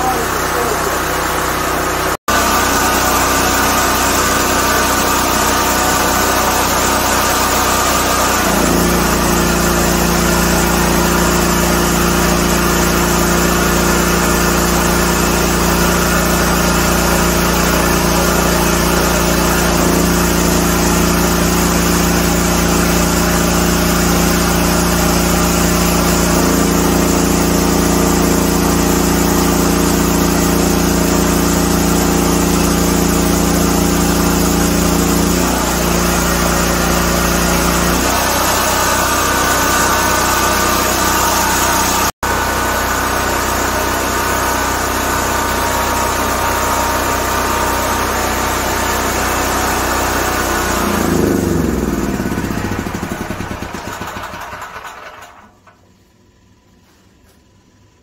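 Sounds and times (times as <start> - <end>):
generator engine running: 0.0 - 58.0.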